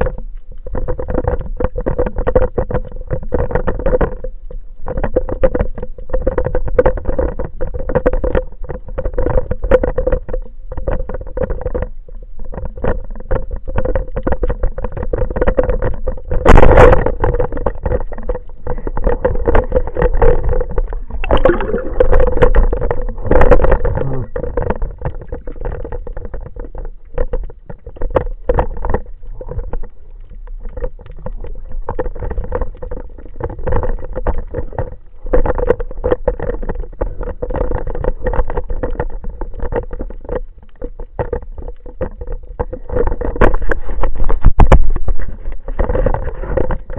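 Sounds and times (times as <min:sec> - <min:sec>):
underwater crackling and clicking: 0:00.0 - 0:46.9.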